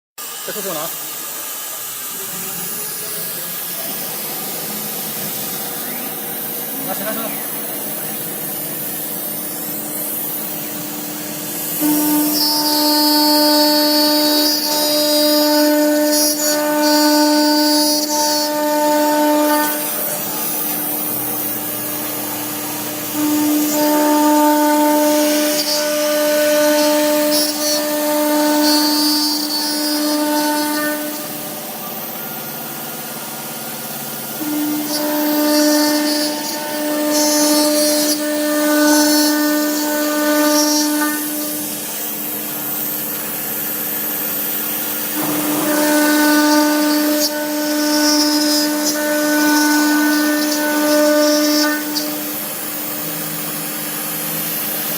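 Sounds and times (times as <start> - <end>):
router milling metal whine: 0.2 - 54.9.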